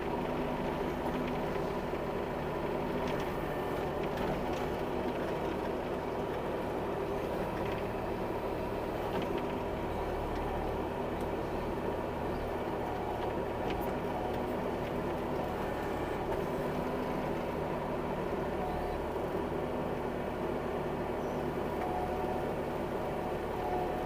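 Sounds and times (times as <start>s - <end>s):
excavator diesel engine humming: 0.0s - 24.0s.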